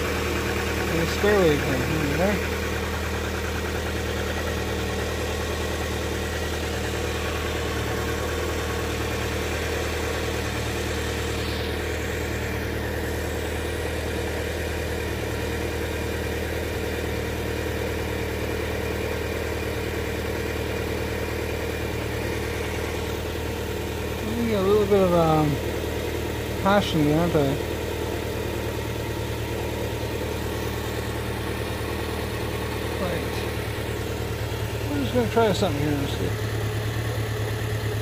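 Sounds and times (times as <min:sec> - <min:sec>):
lumpy car engine idling: 0:00.0 - 0:38.0.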